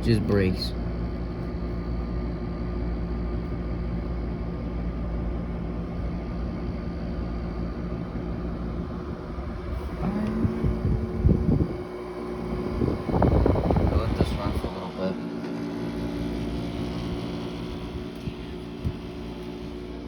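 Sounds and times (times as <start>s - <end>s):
dehumidifier humming: 0.0s - 20.0s.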